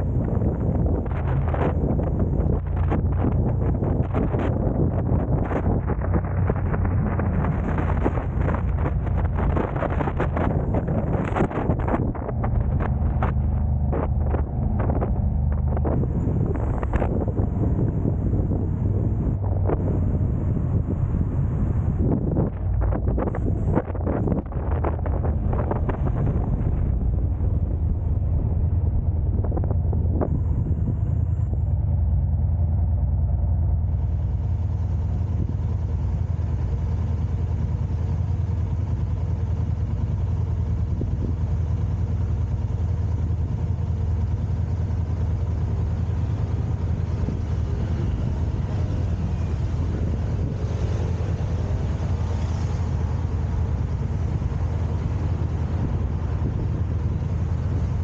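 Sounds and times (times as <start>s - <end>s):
wind noise on microphone: 0.0s - 32.8s, 33.5s - 58.0s
car road and engine rumble: 0.0s - 58.0s.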